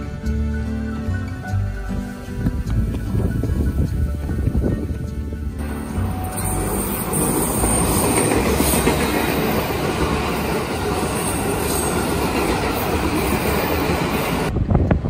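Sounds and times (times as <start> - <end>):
electric train passing: 0.6 - 15.0.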